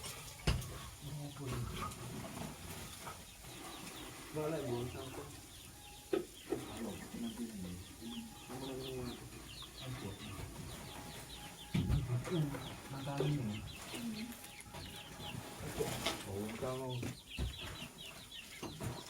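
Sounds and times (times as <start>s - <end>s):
bird chirping: 0.0s - 19.0s
lower wavering bird calls: 3.5s - 19.0s.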